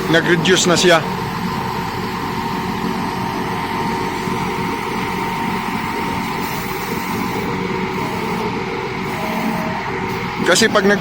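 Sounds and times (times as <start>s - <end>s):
hydraulic pump hum with whine: 0.0s - 11.0s.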